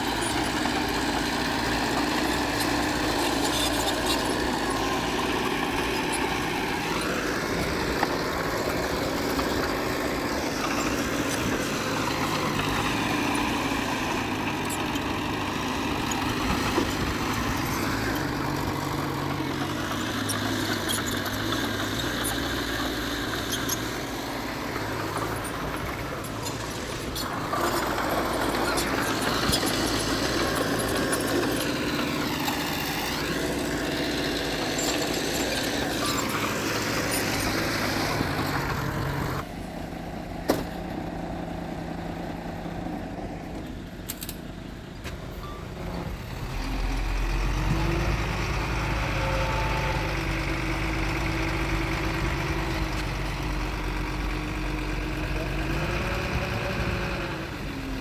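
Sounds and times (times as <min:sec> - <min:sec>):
heavy machinery diesel engine revving: 0:00.0 - 0:58.0.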